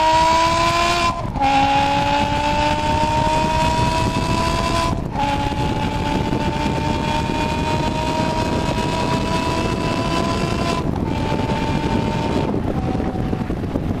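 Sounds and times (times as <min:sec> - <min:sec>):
car exhaust note with gear changes: 0:00.0 - 0:14.0.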